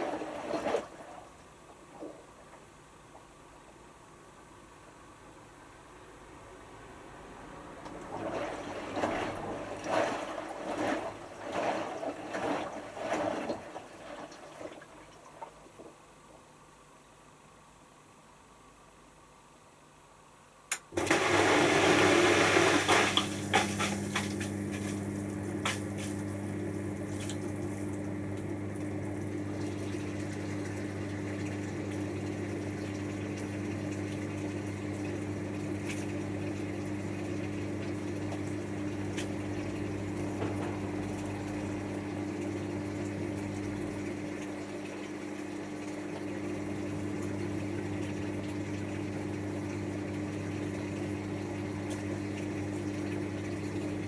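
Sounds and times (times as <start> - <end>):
water rushing into drum: 0.0 - 2.7, 7.8 - 16.0, 21.0 - 54.0
low machine hum: 0.0 - 54.0.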